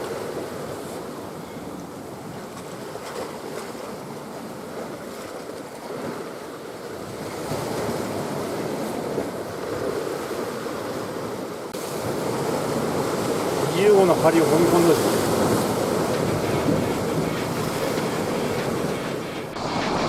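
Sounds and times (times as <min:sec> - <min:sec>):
sea waves washing ashore: 0:00.0 - 0:20.0.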